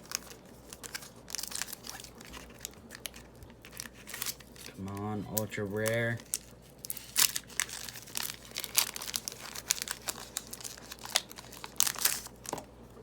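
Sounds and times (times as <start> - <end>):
foil wrapper crinkling and tearing: 0.0 - 12.7.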